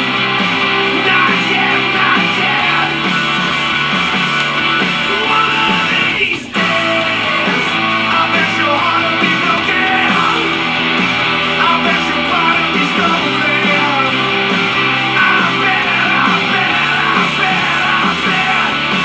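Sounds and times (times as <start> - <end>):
rock song with singing on radio: 0.0 - 19.0.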